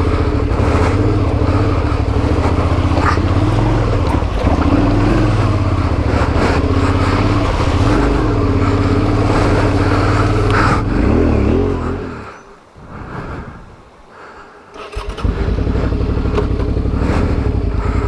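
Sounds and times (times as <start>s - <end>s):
motorcycle engine revving: 0.0s - 12.4s, 14.8s - 18.0s.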